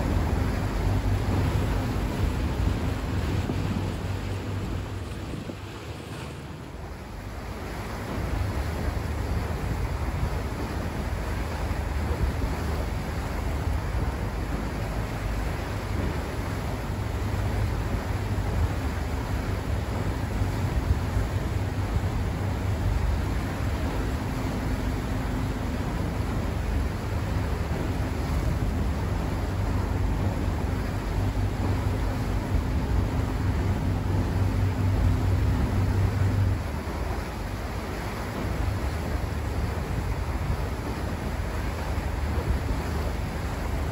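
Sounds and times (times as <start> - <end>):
boat engine rumble: 0.0 - 43.9
wind noise on microphone: 0.0 - 43.9.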